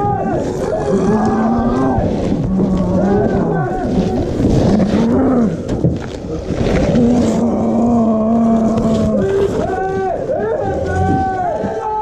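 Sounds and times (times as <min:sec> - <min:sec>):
people growling and moaning: 0:00.0 - 0:12.0.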